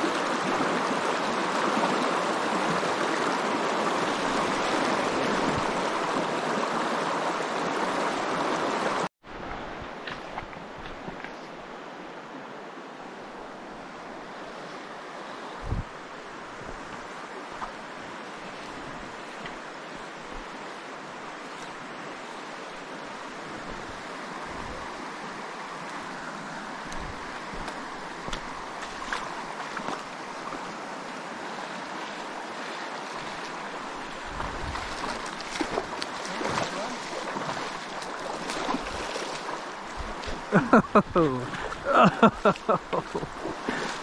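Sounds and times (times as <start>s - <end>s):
river rushing over gravel: 0.0s - 9.1s, 16.0s - 44.0s.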